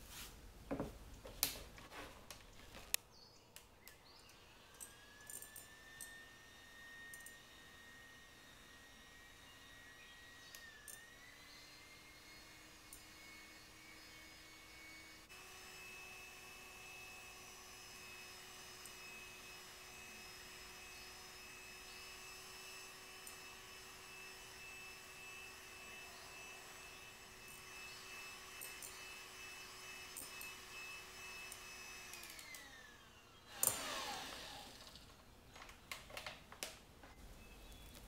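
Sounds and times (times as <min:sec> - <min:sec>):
electric hand mixer whine: 0:04.3 - 0:35.2.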